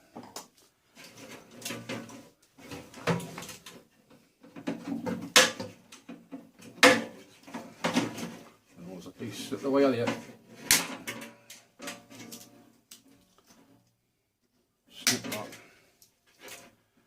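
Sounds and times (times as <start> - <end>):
scrap parts knocking and clattering: 0.2 - 8.6, 9.8 - 13.8, 15.1 - 16.8.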